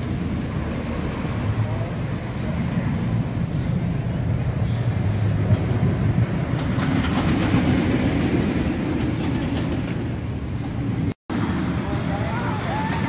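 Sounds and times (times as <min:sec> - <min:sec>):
roller coaster rumble: 0:00.0 - 0:13.0.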